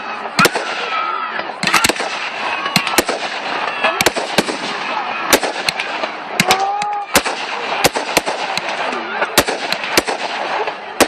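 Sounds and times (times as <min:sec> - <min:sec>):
continuous hiss: 0:00.0 - 0:11.0
fireworks bangs: 0:00.0 - 0:11.0.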